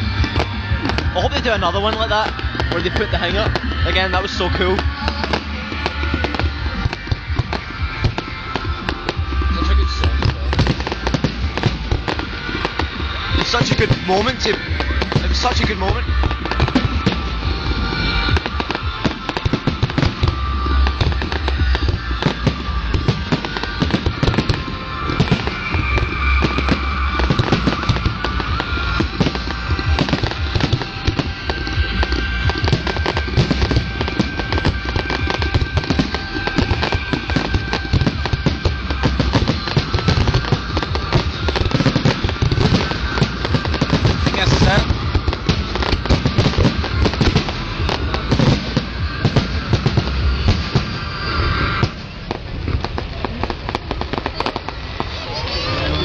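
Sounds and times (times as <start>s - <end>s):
firework shells bursting: 0.0s - 55.2s.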